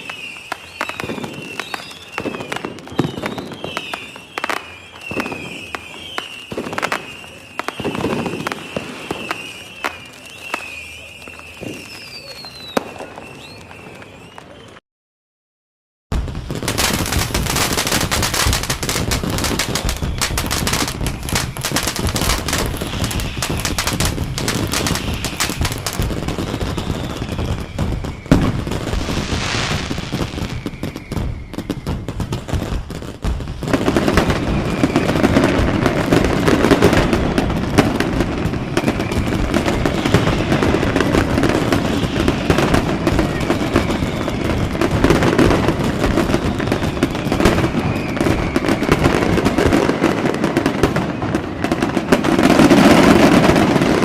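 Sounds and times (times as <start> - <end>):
fireworks crackling and banging: 0.0 - 14.8, 16.1 - 54.0
fireworks whistles: 0.0 - 14.8, 16.1 - 54.0.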